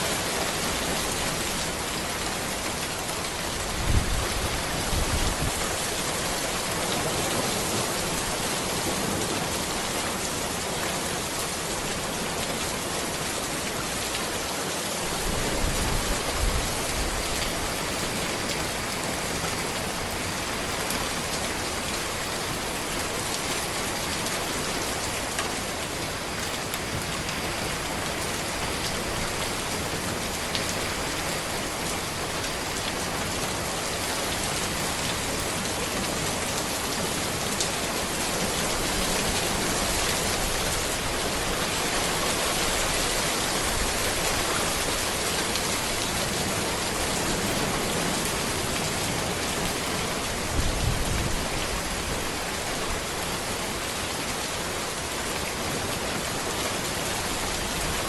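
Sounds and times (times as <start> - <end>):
rain falling on a road: 0.0 - 58.0.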